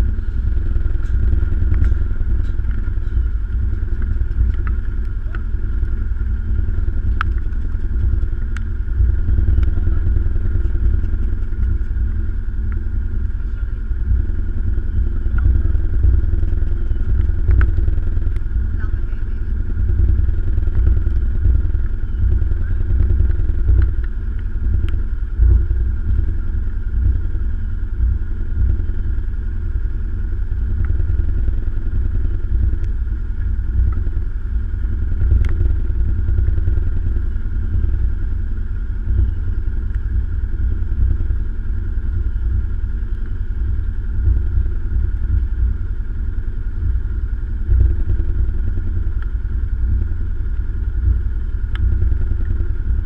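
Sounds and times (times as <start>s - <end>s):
engine rumbling steadily: 0.0s - 53.0s.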